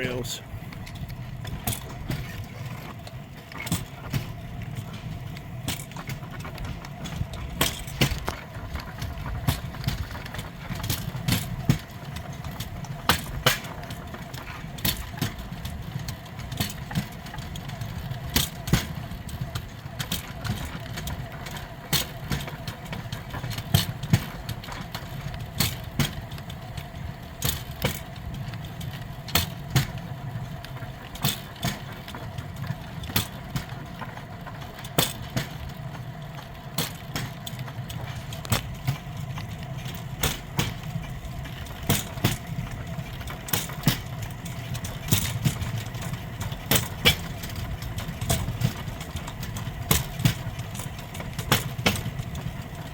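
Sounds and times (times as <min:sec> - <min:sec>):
steel wheels rumbling on track: 0:00.0 - 0:52.9
wheels clacking over rail joints: 0:00.0 - 0:52.9.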